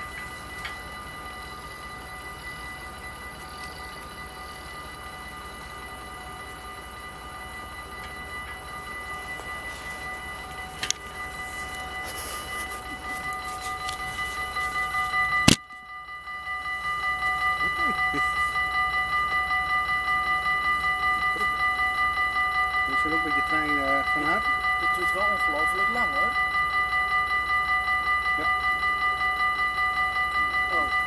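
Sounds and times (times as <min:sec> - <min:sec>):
level-crossing warning bells ringing: 0:00.0 - 0:31.0.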